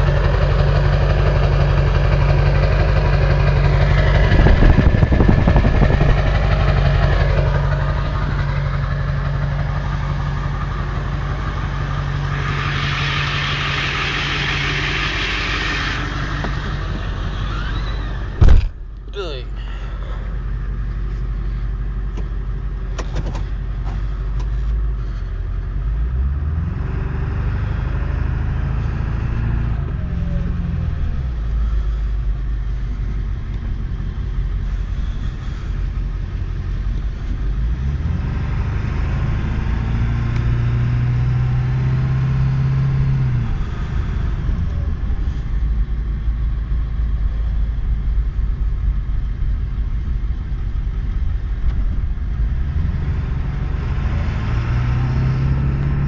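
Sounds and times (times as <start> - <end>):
car engine accelerating: 0.0 - 56.0
road rumble: 0.0 - 56.0.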